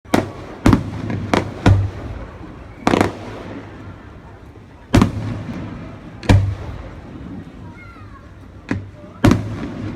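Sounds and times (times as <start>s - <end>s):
fireworks booming: 0.0s - 9.9s.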